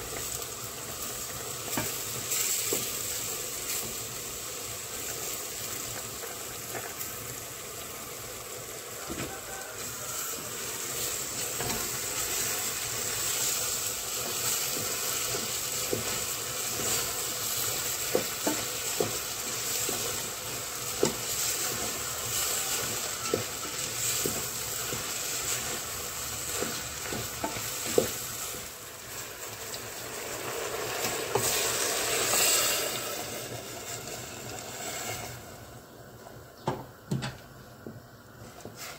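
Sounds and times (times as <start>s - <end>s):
beans sizzling in sauce: 0.0s - 36.6s, 38.0s - 38.9s.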